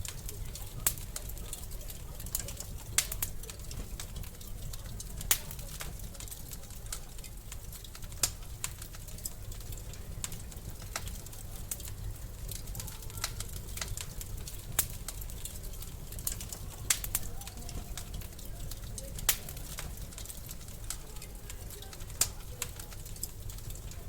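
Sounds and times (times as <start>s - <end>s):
fire popping and snapping: 0.0s - 24.0s
wood fire crackling: 0.0s - 24.0s.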